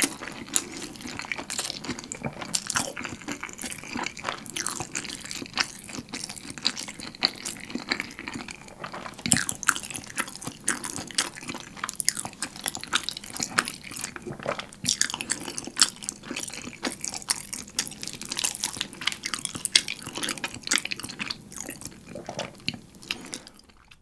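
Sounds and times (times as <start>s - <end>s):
wet mouth chewing: 0.0s - 24.0s.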